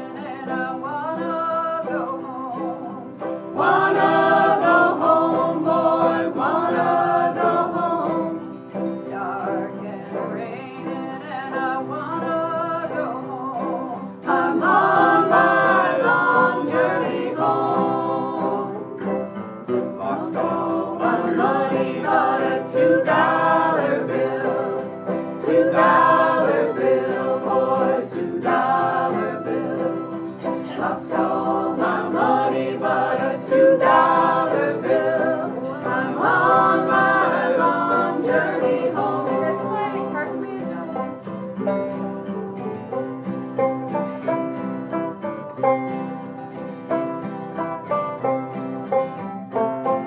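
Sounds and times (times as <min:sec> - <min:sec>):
person singing: 0:00.0 - 0:19.1, 0:20.0 - 0:43.0
acoustic guitars playing folk music: 0:00.0 - 0:50.0.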